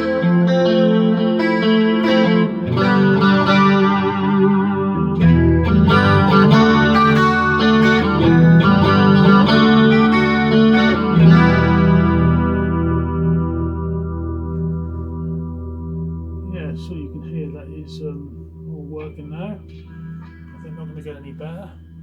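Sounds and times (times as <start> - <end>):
clean electric guitar chords: 0.0 - 22.0.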